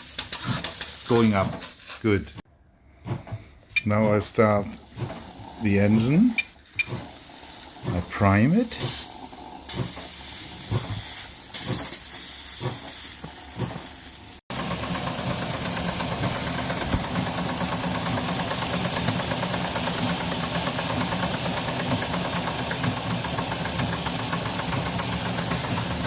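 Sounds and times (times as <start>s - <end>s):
steam engine chuffing and clattering: 0.0s - 1.4s, 4.6s - 26.0s
steam hissing: 0.0s - 1.6s, 4.8s - 26.0s.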